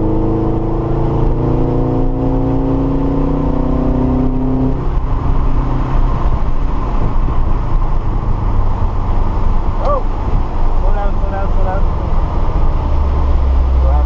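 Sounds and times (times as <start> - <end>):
car engine accelerating: 0.0 - 14.0
road and tyre noise: 0.0 - 14.0.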